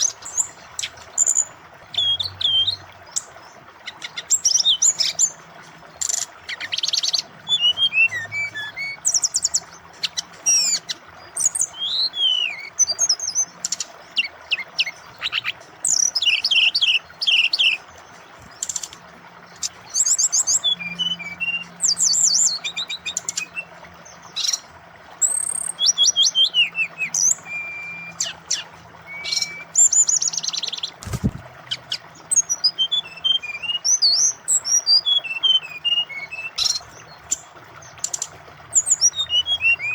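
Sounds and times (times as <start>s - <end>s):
bird singing trills and whistles: 0.0s - 39.9s
flowing water hiss: 0.0s - 39.9s.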